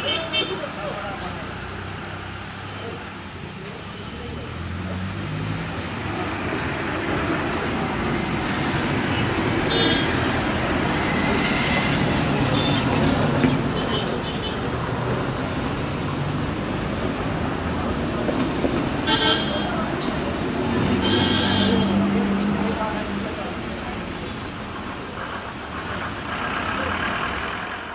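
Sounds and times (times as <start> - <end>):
steam locomotive hissing: 0.0 - 27.9.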